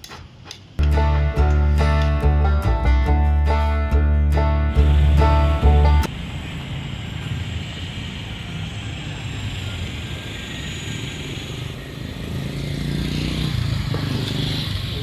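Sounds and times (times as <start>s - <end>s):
passing traffic rumble: 0.8s - 15.0s.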